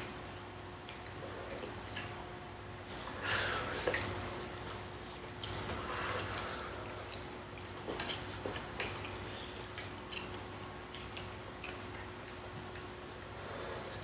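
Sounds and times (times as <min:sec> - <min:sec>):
faint steady hum: 0:00.0 - 0:14.0
faint chewing: 0:00.8 - 0:14.0.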